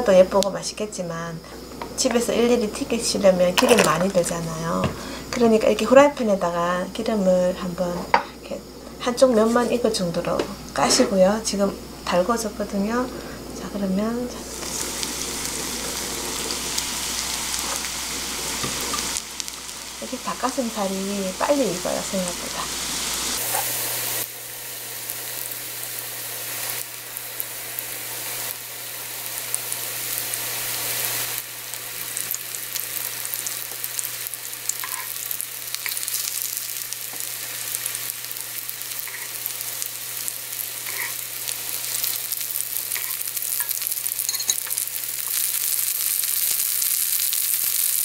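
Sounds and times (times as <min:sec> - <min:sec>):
chicken sizzling in frying pan: 0:01.6 - 0:06.0, 0:12.6 - 0:48.0.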